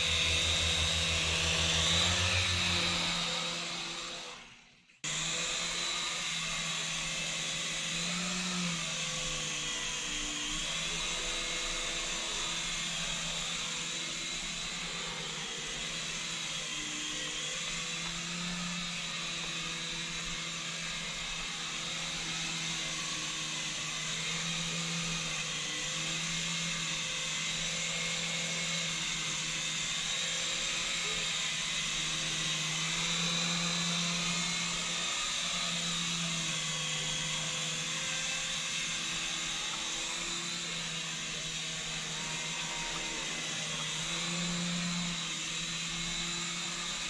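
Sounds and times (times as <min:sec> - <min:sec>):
toy helicopter buzzing whine: 0:00.0 - 0:47.0.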